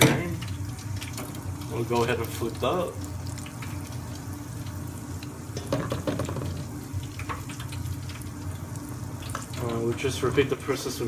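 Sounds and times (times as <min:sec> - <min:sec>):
food sizzling in deep fryer oil: 0:00.0 - 0:11.0.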